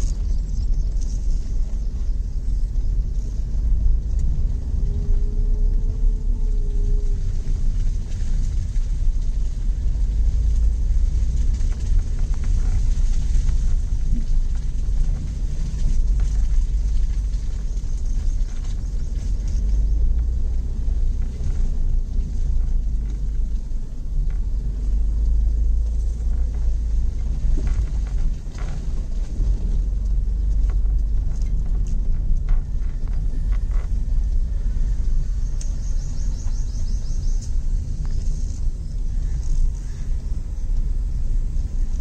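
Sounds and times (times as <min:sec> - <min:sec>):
low rumble inside car cabin: 0:00.0 - 0:42.0.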